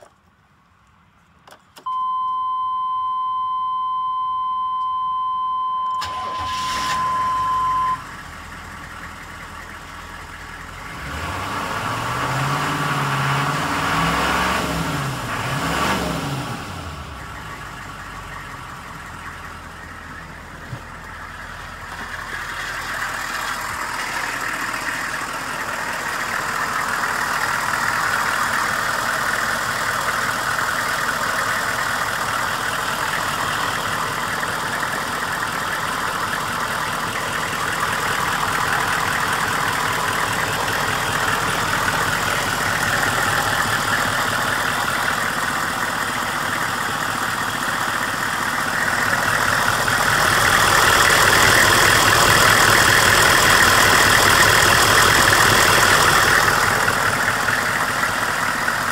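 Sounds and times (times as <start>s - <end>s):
bus engine idling: 0.1s - 11.0s, 16.7s - 58.9s.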